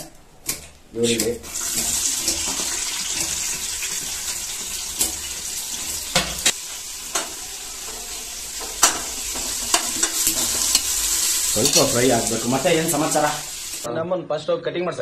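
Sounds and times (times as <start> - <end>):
onions sizzling in hot oil: 1.4 - 13.9.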